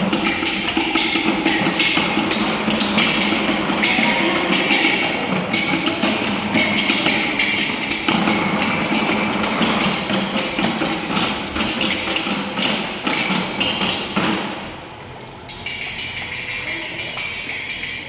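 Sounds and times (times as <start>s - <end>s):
rhythmic drumbeat on hard objects: 0.0s - 18.0s.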